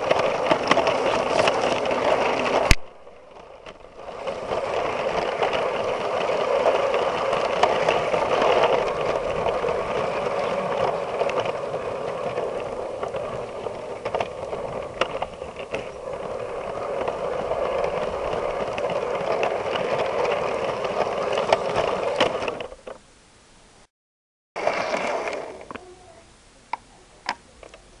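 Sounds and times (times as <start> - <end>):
toy train motor running: 0.0 - 22.9, 24.6 - 26.1
plastic wheels rattling on track: 0.0 - 23.0, 24.6 - 26.2.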